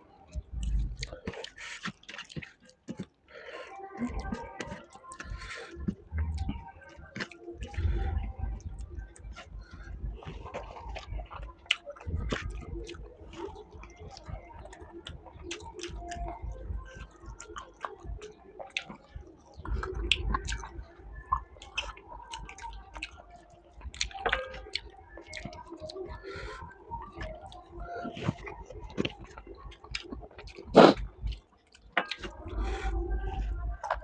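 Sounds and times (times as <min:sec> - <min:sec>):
close-up chewing: 0:00.2 - 0:34.0.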